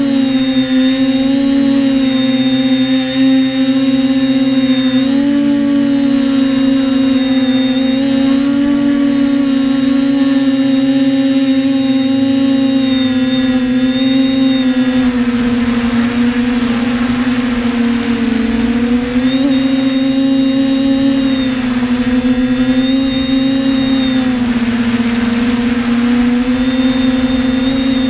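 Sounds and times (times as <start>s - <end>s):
drone propellers humming: 0.0s - 28.0s.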